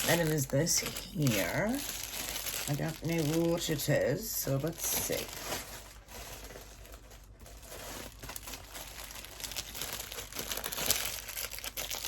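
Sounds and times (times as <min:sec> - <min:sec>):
packaging tearing: 0:00.0 - 0:03.8, 0:04.6 - 0:12.0
packaging crinkling and rustling: 0:00.0 - 0:12.0.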